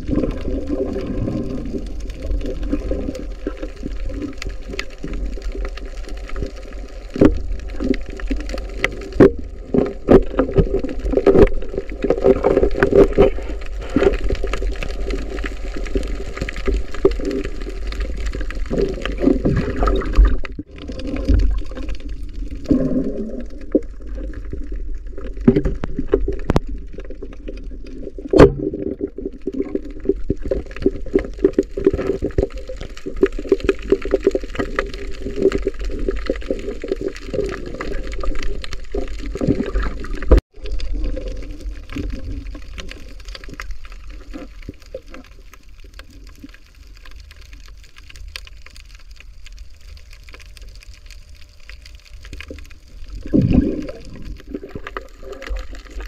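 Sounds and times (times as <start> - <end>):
muffled underwater water wash: 0.0 - 56.0.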